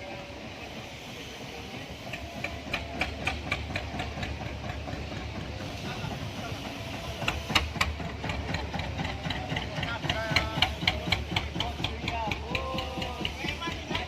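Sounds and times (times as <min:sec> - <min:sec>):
small engine rumbling: 0:00.0 - 0:14.0.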